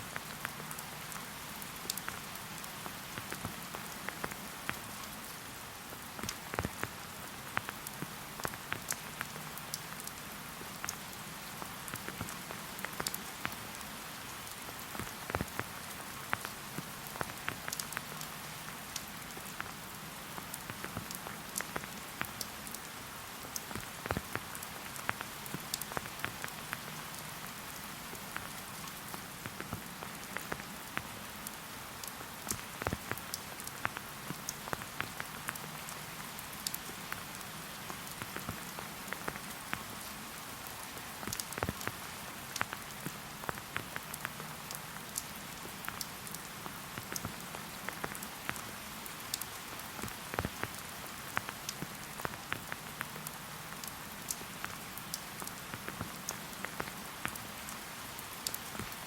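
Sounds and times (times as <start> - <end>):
raindrops ticking close by: 0.0 - 59.0
steady rain hiss: 0.0 - 59.0.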